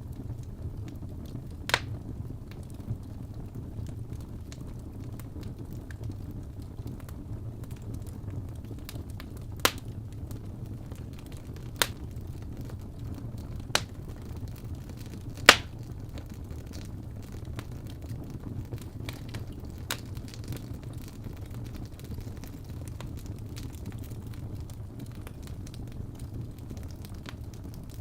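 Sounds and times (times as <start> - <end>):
faint fire crackling: 0.0 - 28.0
fire low rumble: 0.0 - 28.0
sharp pops from burning logs: 0.8 - 2.9, 6.8 - 28.0.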